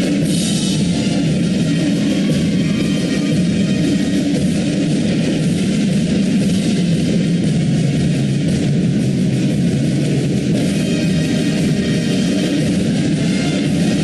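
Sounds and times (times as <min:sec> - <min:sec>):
loud instrumental music: 0:00.0 - 0:14.0.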